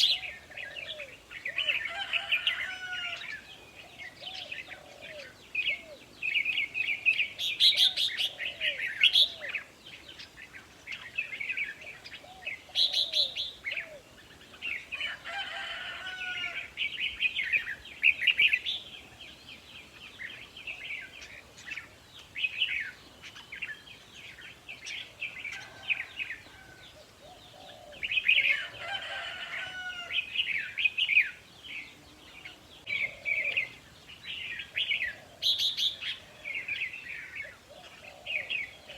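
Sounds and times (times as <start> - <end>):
birds singing warbled phrases: 0.0 - 38.9.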